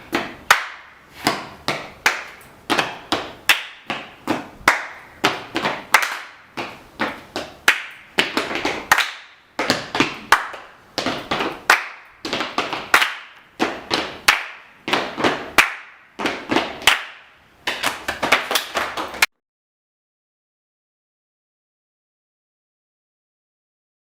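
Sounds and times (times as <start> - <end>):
hand claps: 0.0 - 19.3.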